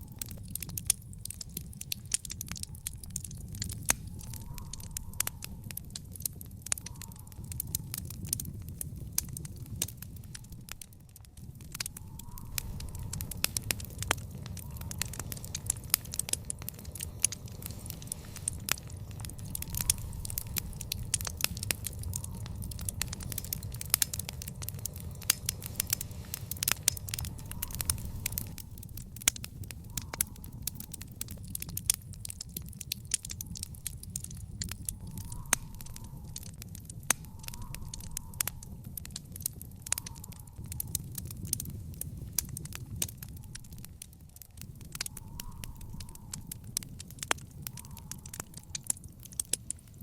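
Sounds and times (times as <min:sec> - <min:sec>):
low rumble of flame: 0:00.0 - 0:50.0
wood fire crackling and popping: 0:00.0 - 0:50.0.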